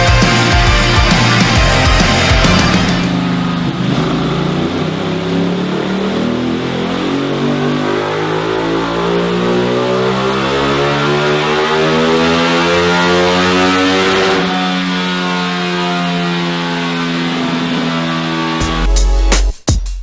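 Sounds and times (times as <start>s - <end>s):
motorcycle engine revving under load: 0.0s - 18.9s.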